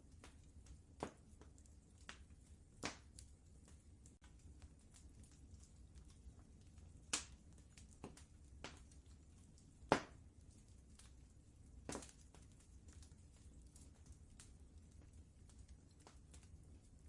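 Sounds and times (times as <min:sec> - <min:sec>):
low steady rumble: 0:00.0 - 0:17.0
wood fire crackling: 0:00.0 - 0:17.0.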